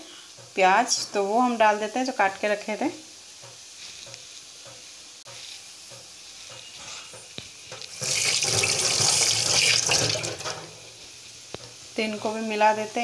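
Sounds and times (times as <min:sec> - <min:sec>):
stuffing sizzling in a frying pan: 0:00.0 - 0:13.0.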